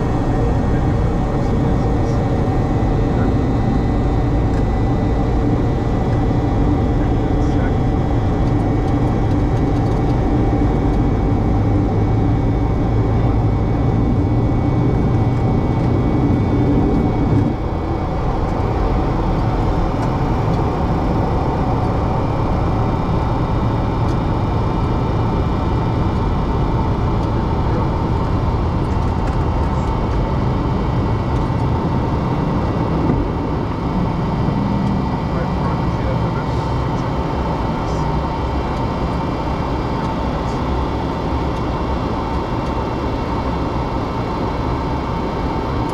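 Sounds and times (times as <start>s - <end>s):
low hum: 0.0s - 45.9s
rush of air and engine noise: 0.0s - 45.9s.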